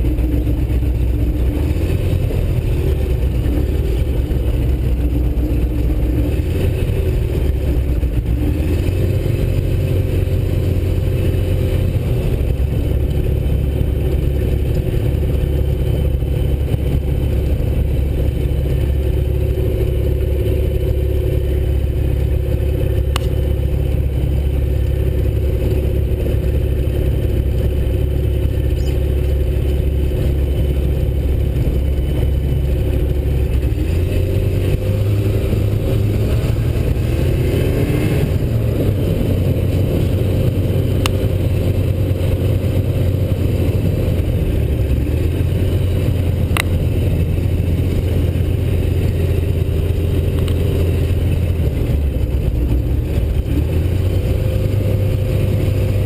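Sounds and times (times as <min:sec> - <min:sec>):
aircraft engine running: 0:00.0 - 0:56.0.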